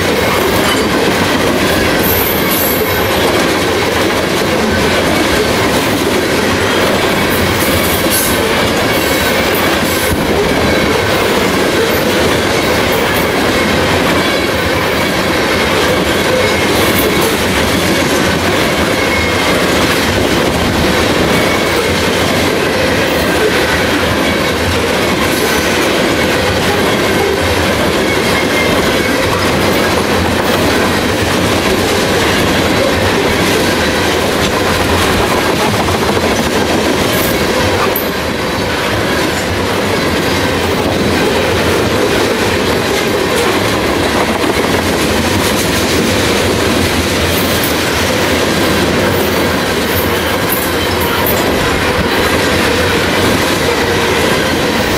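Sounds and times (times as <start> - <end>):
freight train wheels clattering: 0.0 - 54.9.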